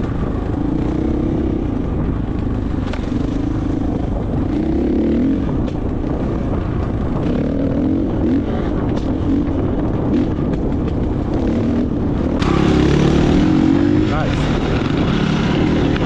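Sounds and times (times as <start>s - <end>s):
steady rumble: 0.0s - 16.0s
wind: 0.0s - 16.0s.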